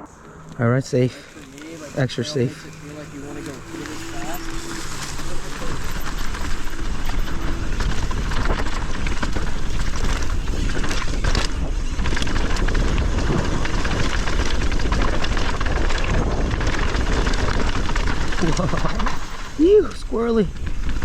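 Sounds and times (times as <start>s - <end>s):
bike rattling: 0.0s - 21.0s
tyres crackling over dirt: 0.0s - 21.0s
wind rushing over microphone: 0.0s - 21.0s.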